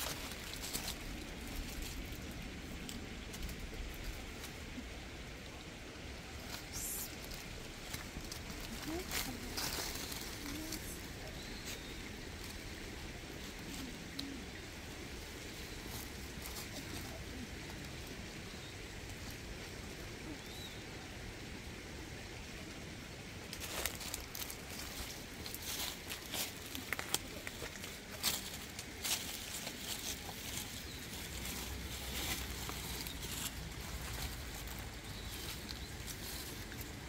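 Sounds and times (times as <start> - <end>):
outdoor hiss: 0.0 - 37.0.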